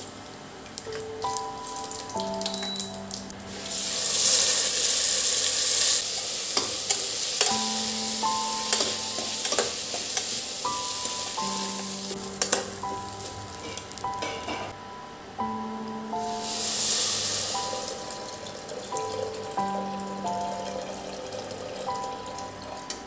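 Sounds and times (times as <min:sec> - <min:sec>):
seeds and rice sizzling in fat: 0:00.0 - 0:14.7, 0:16.1 - 0:23.0.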